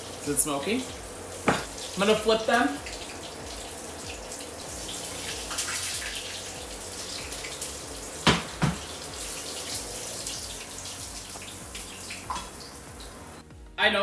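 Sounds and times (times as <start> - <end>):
chicken sizzling in oil: 0.0 - 13.4.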